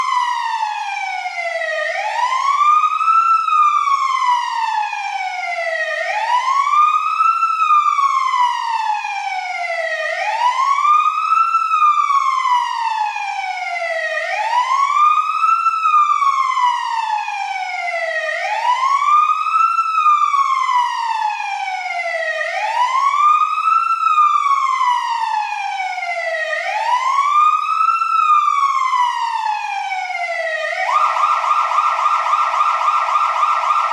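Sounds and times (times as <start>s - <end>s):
fire truck siren wailing: 0.0s - 33.9s.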